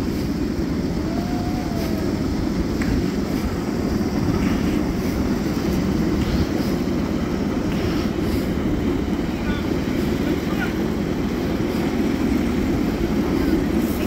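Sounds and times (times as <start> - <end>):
miniature train rumbling on track: 0.0 - 14.0.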